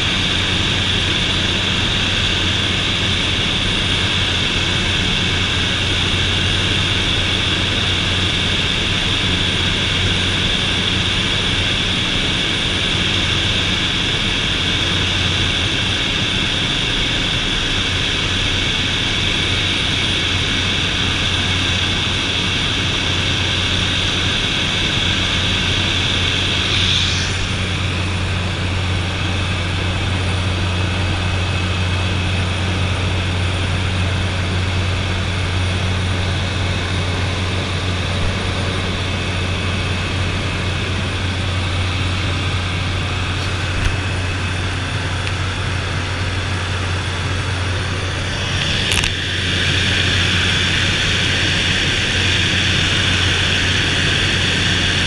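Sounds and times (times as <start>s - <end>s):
propeller drone: 0.0s - 55.0s
turbine whine: 0.0s - 55.0s.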